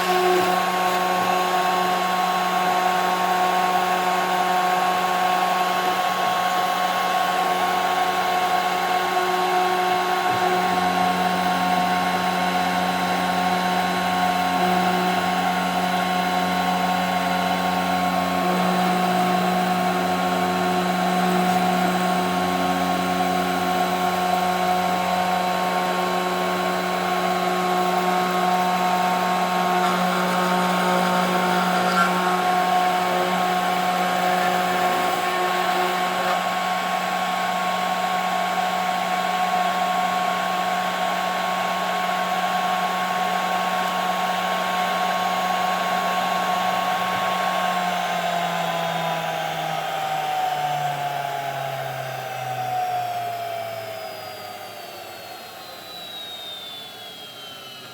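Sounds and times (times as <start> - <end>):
router spindle whine: 0.0 - 57.9.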